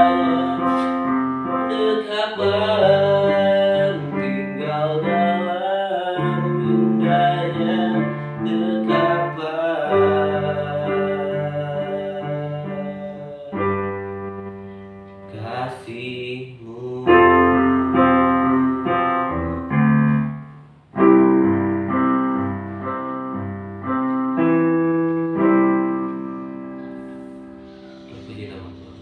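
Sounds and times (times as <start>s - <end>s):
electronic keyboard piano chords: 0.0s - 29.0s.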